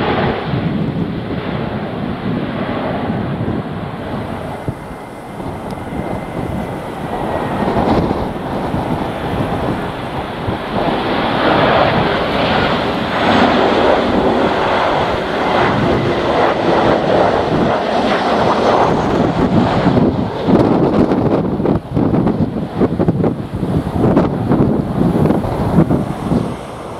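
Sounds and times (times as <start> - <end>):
jet engines on approach: 0.0 - 26.9
wind buffeting microphone: 0.0 - 26.9.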